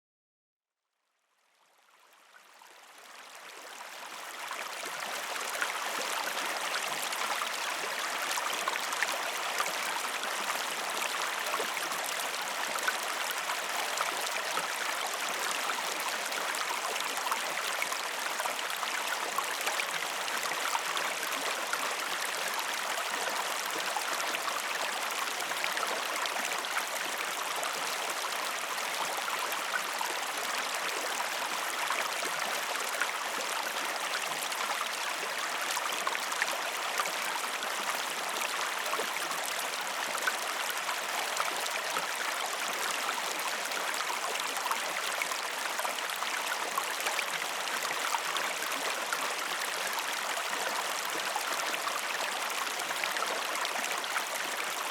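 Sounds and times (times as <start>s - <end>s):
stream water flowing: 1.8s - 54.9s.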